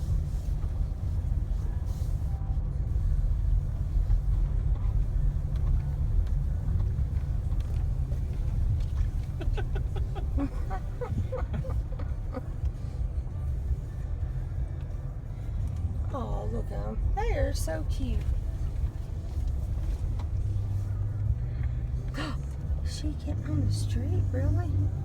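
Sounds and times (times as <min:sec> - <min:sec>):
vehicle driving rumble: 0:00.0 - 0:25.0.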